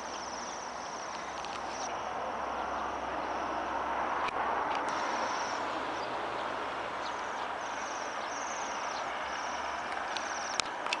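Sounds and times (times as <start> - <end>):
birds trilling: 0.0 - 3.7, 4.9 - 10.8.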